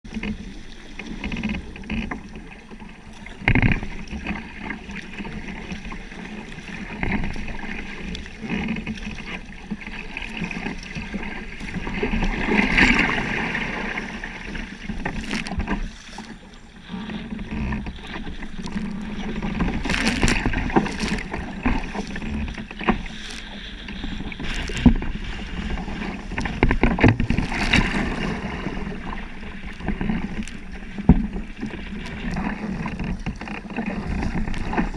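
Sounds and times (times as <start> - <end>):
water splashing and slapping: 0.0 - 34.9.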